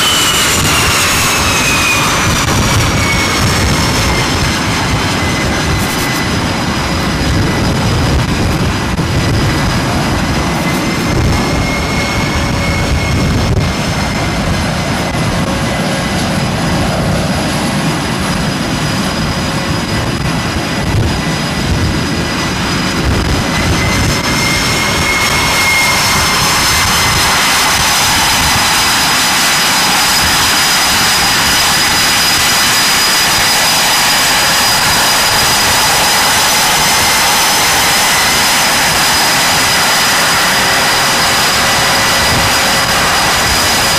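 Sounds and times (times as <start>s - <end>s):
high turbine whine: 0.0s - 43.9s
jet engines rushing: 0.0s - 43.9s.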